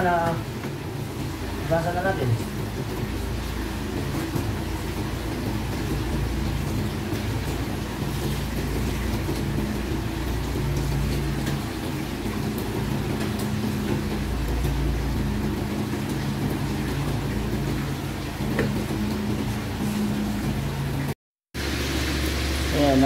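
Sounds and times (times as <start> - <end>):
water sloshing in metal basin: 0.0 - 21.1
tap water running: 0.0 - 23.0.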